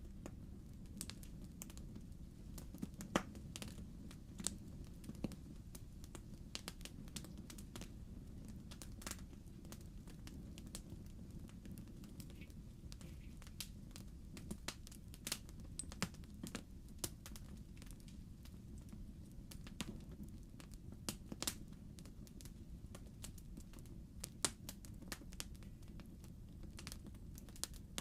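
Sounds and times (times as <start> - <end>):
fire low rumble: 0.0 - 28.0
wood fire crackling and popping: 0.0 - 28.0.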